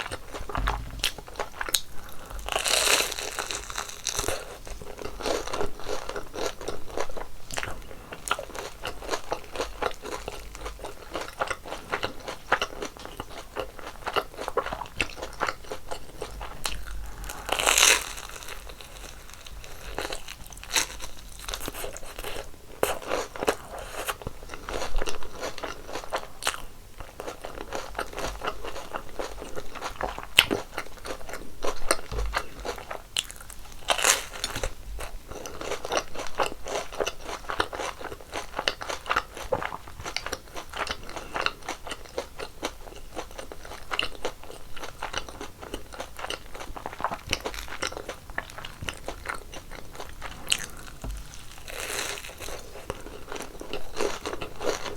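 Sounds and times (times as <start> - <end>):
crispy doughnuts being chewed: 0.0 - 54.9.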